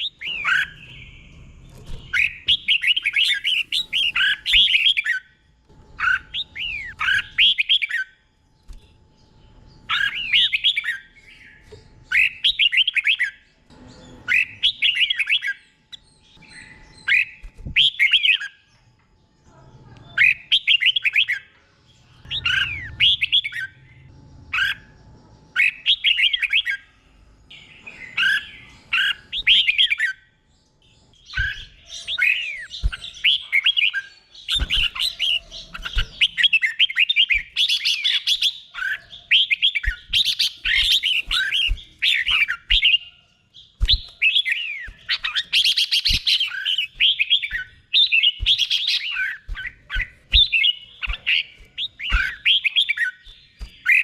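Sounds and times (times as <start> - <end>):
bird warbling song: 0.0 - 54.0.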